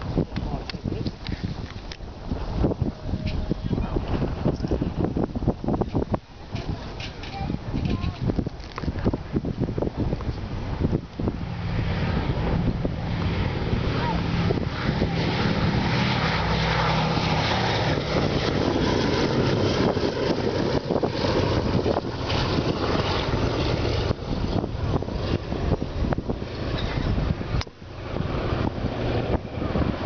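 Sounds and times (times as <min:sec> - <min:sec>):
aircraft engines droning: 0:00.0 - 0:30.0
wind crackling on microphone: 0:00.0 - 0:30.0.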